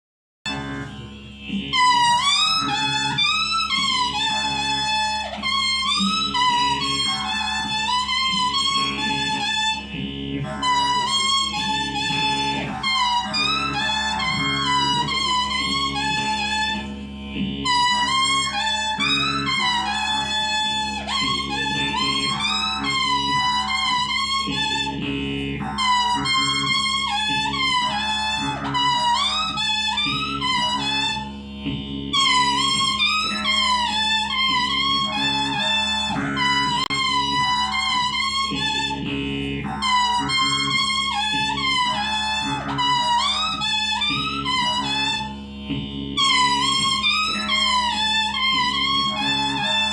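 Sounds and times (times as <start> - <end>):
bamboo mouth organ melody: 0.5 - 49.9.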